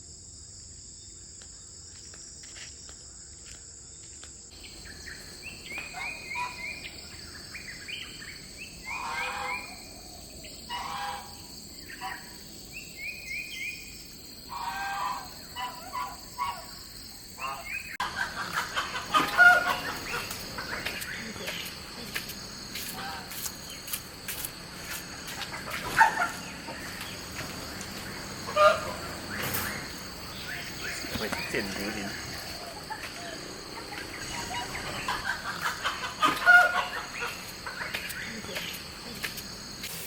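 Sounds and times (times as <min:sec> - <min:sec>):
insects droning: 0:00.0 - 0:40.0
birds chirping: 0:04.6 - 0:40.0.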